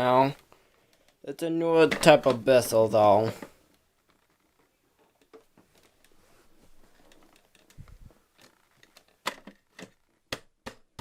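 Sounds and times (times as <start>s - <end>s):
faint rustling and handling: 0.0s - 10.3s.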